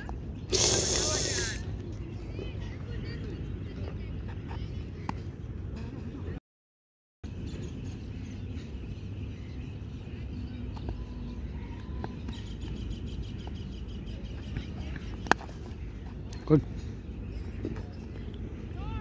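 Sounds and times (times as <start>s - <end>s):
low outdoor background noise: 0.0s - 6.4s, 7.3s - 19.0s.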